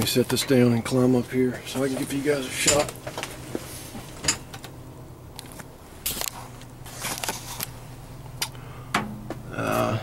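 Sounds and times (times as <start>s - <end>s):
freezer hum: 0.0s - 10.0s.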